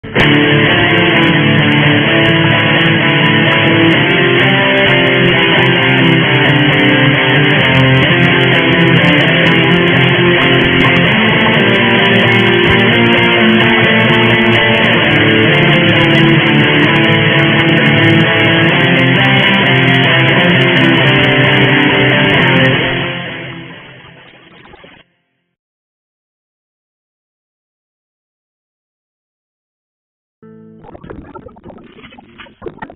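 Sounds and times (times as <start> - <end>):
guitar music: 0.0 - 25.1, 30.4 - 32.9.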